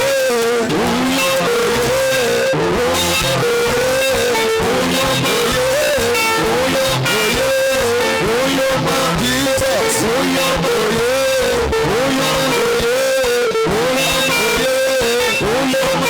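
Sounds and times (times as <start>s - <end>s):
bass guitar: 0.0s - 16.0s
guitar melody: 0.0s - 16.0s.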